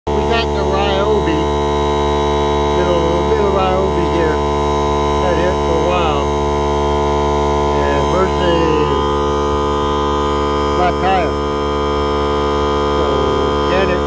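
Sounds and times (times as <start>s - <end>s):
air compressor humming: 0.1s - 14.0s.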